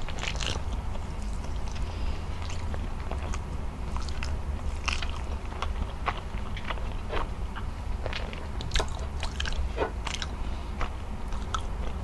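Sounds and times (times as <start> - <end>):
steady low hum: 0.0 - 12.0
wet sticky eating sounds: 0.0 - 12.0.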